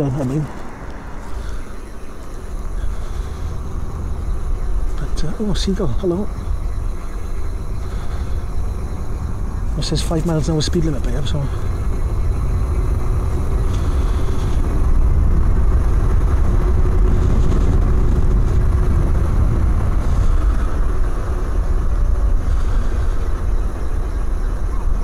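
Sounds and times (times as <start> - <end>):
tyre and road noise: 0.0 - 25.0
wind buffeting microphone: 0.0 - 25.0.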